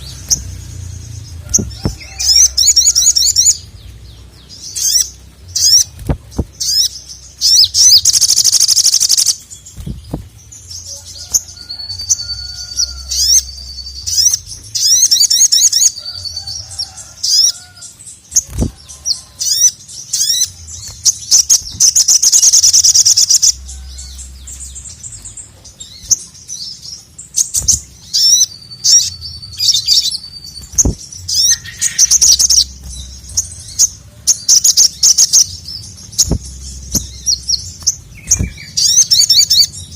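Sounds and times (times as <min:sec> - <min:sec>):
sunbird singing chirps and trills: 0:00.0 - 0:39.9.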